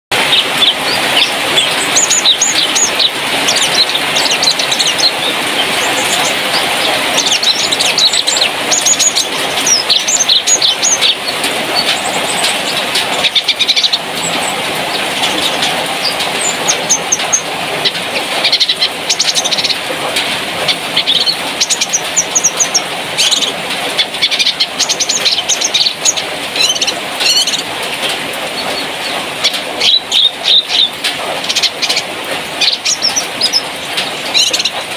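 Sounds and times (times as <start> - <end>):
bird chirps and trills: 0.1 - 34.9
dense chattering background: 0.1 - 34.9.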